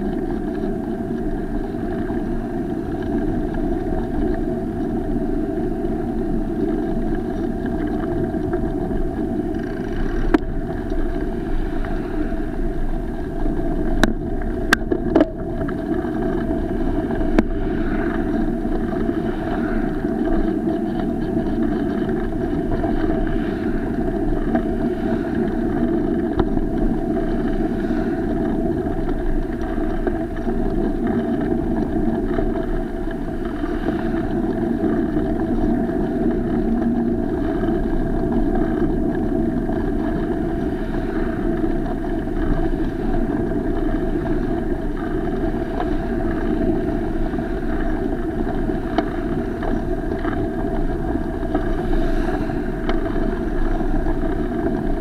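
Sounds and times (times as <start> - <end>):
wind rumble: 0.0 - 55.0.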